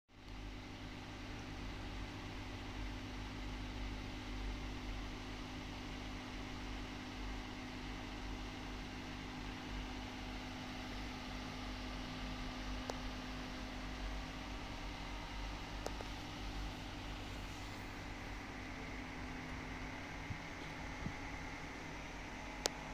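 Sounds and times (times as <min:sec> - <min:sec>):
low mechanical hum: 0:00.1 - 0:22.9.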